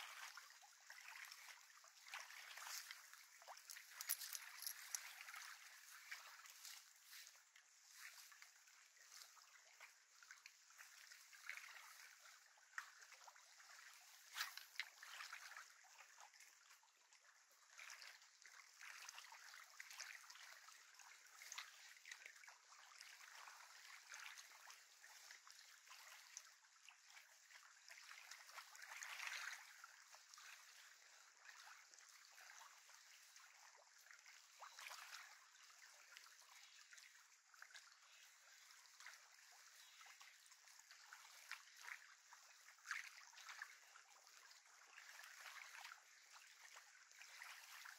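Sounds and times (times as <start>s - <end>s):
small waves lapping: 0.0s - 47.9s.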